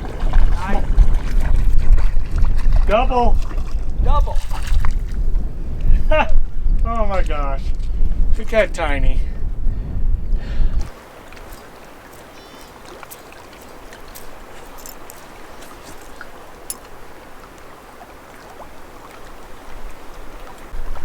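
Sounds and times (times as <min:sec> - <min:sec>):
water trickling and lapping: 0:00.0 - 0:08.2, 0:09.6 - 0:21.0.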